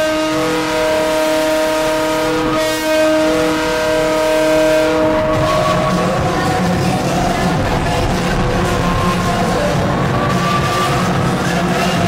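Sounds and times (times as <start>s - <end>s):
goal horn multi-tone chord: 0.0s - 12.0s
goal song music: 0.1s - 12.0s.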